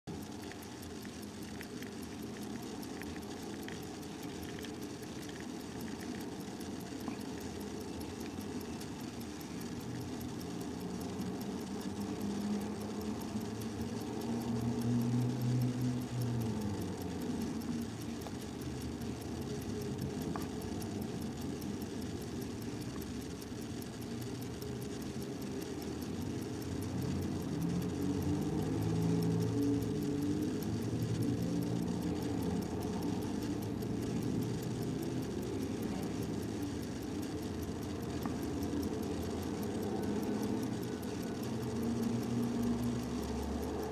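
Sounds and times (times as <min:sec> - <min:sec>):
motor rumbling with humming tone: 0:00.0 - 0:43.9.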